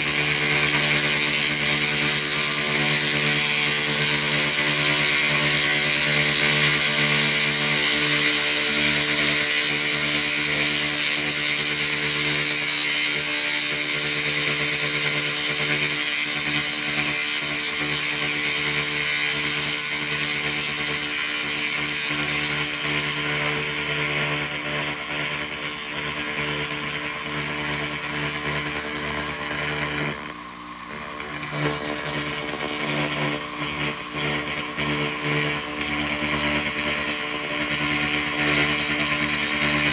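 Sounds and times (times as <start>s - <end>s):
laser buzzing hum: 0.0s - 39.9s.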